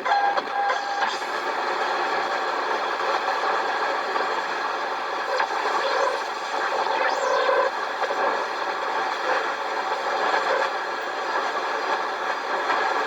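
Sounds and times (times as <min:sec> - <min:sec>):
radio static hiss: 0:00.1 - 0:13.0.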